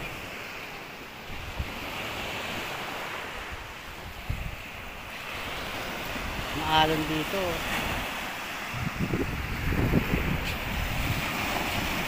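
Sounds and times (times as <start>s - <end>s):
rough sea surf washing ashore: 0.0s - 12.0s
wind buffeting microphone: 1.2s - 12.0s.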